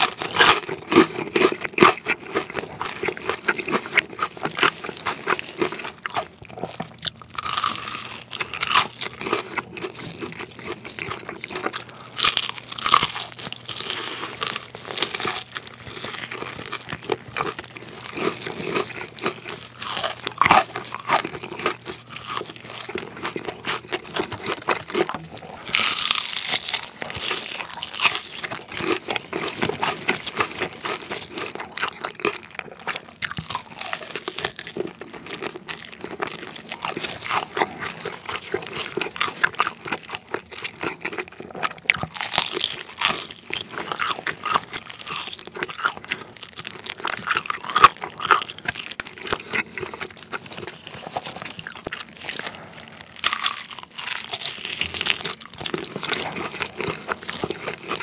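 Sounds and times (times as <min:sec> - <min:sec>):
crunchy chewing of fried chicken: 0:00.0 - 0:58.0.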